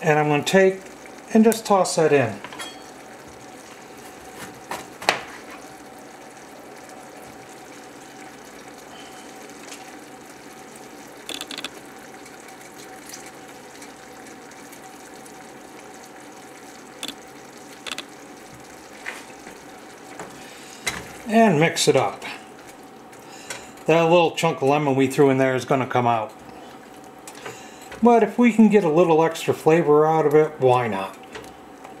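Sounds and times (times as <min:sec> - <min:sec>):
sauce bubbling in a saucepan: 0:00.0 - 0:32.0.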